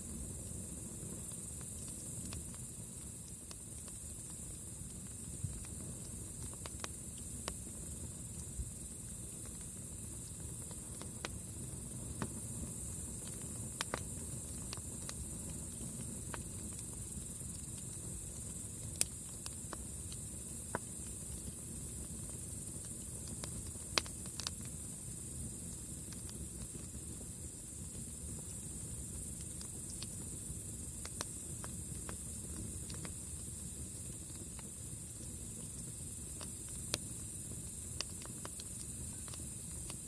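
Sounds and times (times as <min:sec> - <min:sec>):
campfire popping and crackling: 0:00.0 - 0:40.0
constant high hiss: 0:00.0 - 0:40.0.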